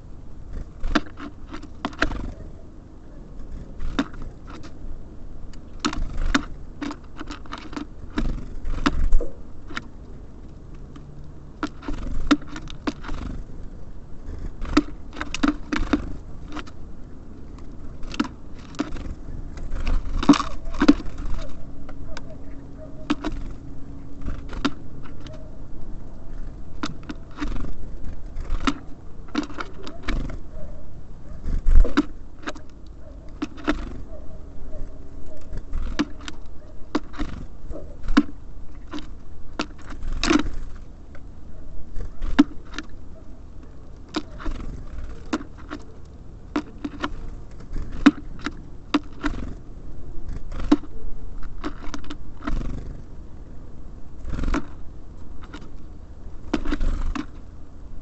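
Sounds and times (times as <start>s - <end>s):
birds pecking at a feeder: 0.0s - 58.0s
low background rumble: 0.0s - 58.0s.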